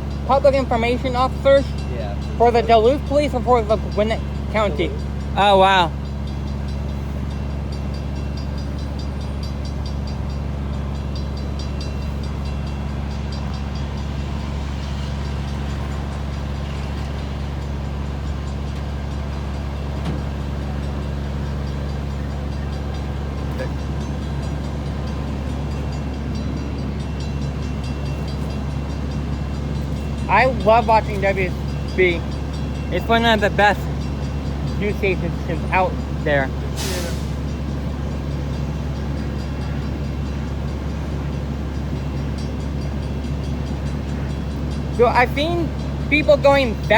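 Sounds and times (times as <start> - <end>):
large engine idling: 0.0 - 46.9.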